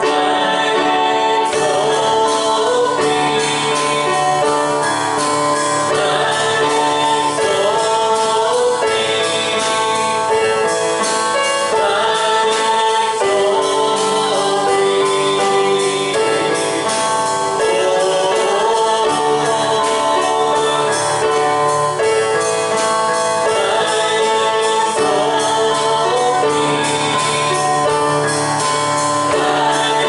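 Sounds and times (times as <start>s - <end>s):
band playing: 0.0s - 30.0s
voices singing gospel song: 0.0s - 30.0s.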